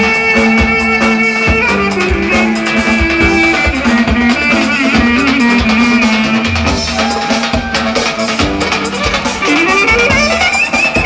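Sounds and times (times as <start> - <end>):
loud dance music with drum beat: 0.0 - 11.0.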